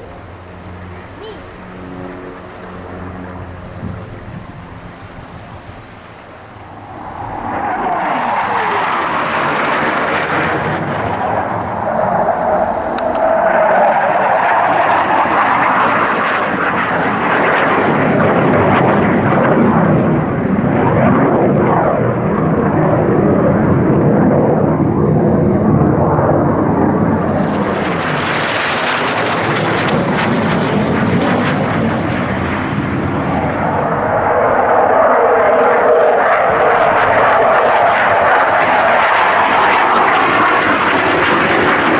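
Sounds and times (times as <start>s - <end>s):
aircraft engine flying past: 0.0s - 41.9s.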